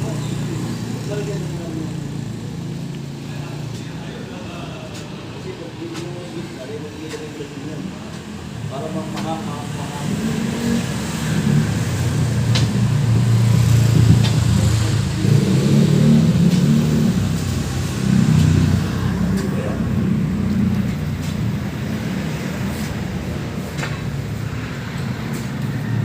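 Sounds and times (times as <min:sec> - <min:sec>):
heavy engine rumbling: 0:00.0 - 0:26.0.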